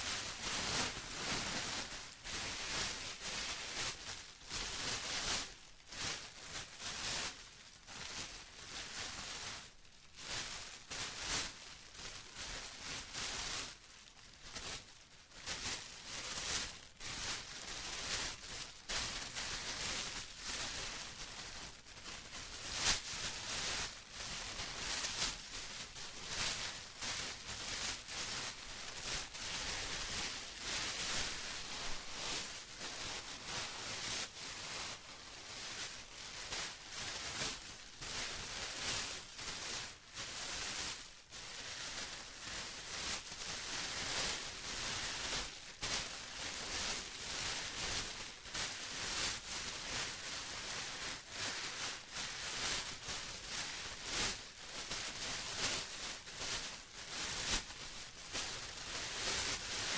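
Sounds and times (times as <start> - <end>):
plastic crumpling: 0.0 - 59.9.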